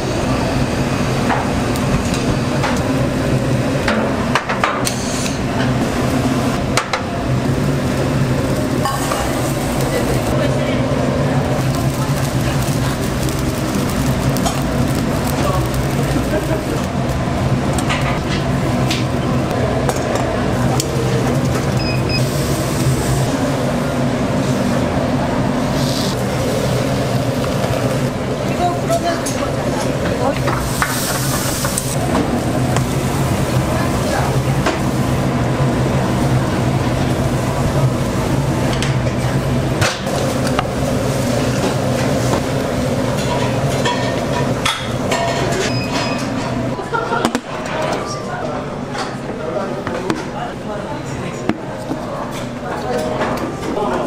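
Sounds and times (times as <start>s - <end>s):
steady low hum: 0.0s - 45.3s.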